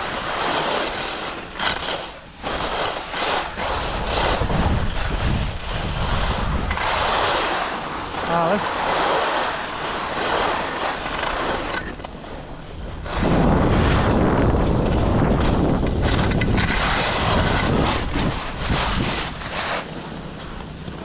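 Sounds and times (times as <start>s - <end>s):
ski edges scraping snow: 0.0s - 21.0s
wind buffeting microphone: 0.0s - 21.0s.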